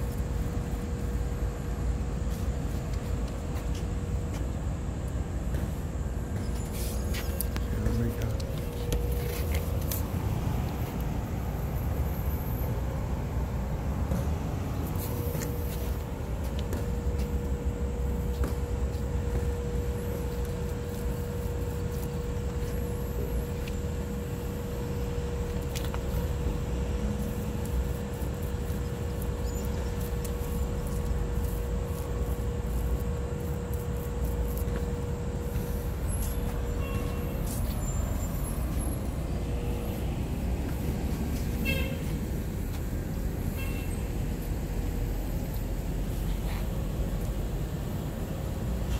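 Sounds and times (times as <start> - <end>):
constant hum: 0.0 - 48.9
low rumble of machinery: 0.0 - 48.9.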